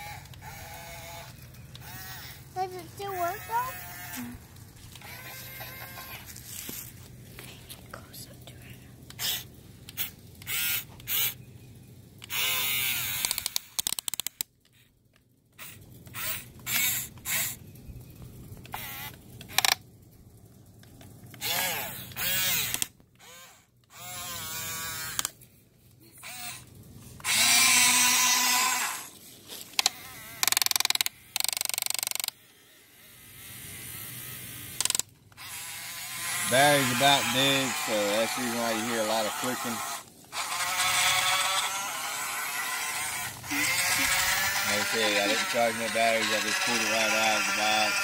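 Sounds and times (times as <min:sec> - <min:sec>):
gears clicking: 0:00.0 - 0:06.4, 0:09.0 - 0:11.4, 0:12.2 - 0:15.0, 0:15.6 - 0:19.8, 0:20.7 - 0:25.4, 0:26.2 - 0:48.0
toy electric motors whirring: 0:00.0 - 0:07.6, 0:09.0 - 0:48.0.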